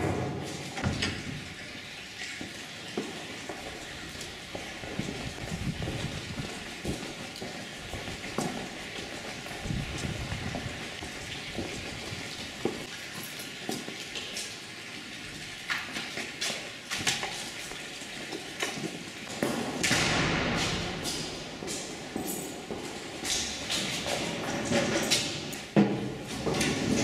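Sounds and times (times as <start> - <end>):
footsteps on stone floor: 2.4 - 14.6, 15.4 - 19.7, 21.0 - 26.6.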